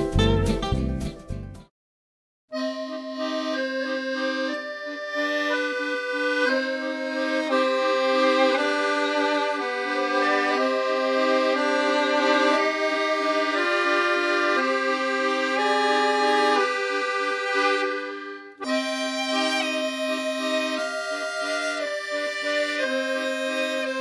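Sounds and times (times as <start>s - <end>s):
accordion melody: 0.0s - 1.7s, 2.5s - 24.0s.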